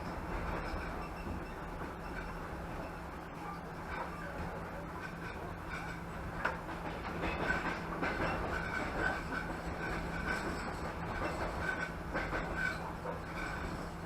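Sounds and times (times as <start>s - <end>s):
train carriage rumble and hum: 0.0s - 14.0s
wheels clicking on rails: 0.0s - 14.0s.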